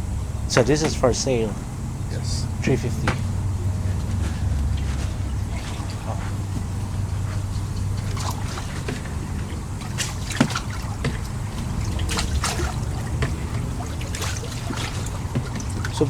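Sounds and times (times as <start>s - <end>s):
steady low hum: 0.0s - 16.0s
water trickling and splashing: 0.0s - 16.0s.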